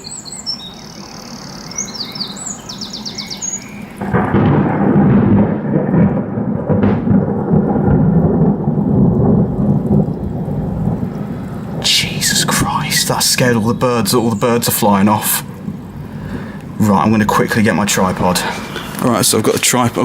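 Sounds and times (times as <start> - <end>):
birds chirping: 0.0 - 6.4, 8.6 - 20.0
thunder rumbling: 0.0 - 20.0.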